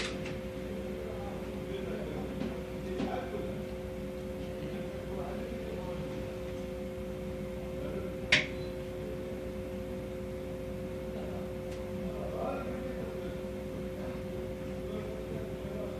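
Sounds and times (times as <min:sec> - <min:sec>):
two-tone mechanical hum: 0:00.0 - 0:15.9.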